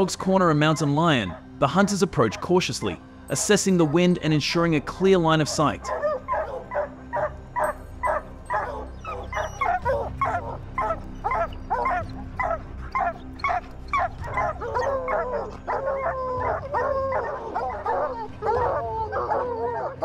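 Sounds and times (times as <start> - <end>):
hounds barking and baying: 0.0 - 20.0.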